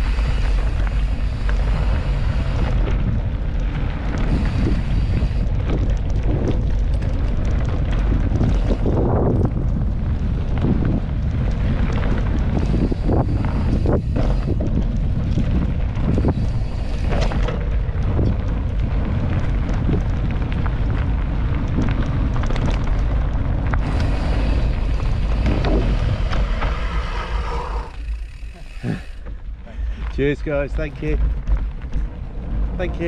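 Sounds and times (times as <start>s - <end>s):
bike knocks and rattles: 0.0s - 33.0s
wind rumbling on microphone: 0.0s - 33.0s.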